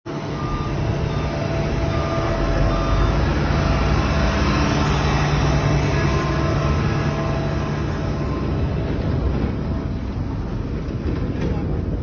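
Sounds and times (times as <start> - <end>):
heavy vehicle engine humming: 0.1 - 12.0
reversing alarm beeping: 0.3 - 11.1.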